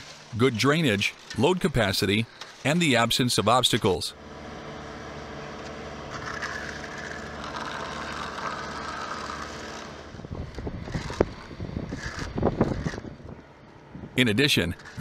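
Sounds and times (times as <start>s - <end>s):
concrete mixer truck running: 0.0s - 15.0s.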